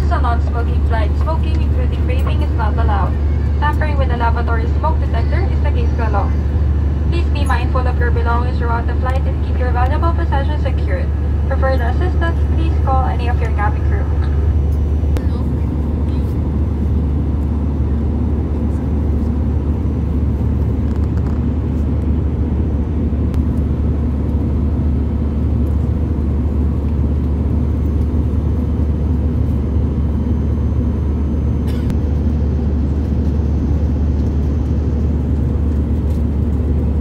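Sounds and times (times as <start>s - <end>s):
airplane cabin rumble: 0.0s - 37.0s.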